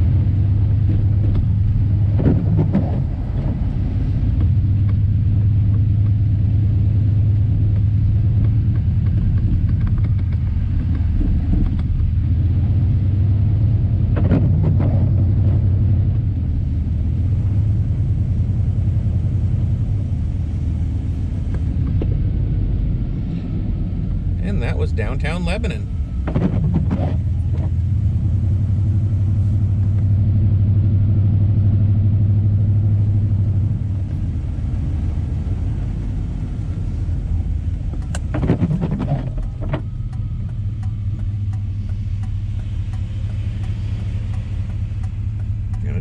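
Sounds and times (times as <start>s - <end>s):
vehicle driving on snow: 0.0s - 46.0s.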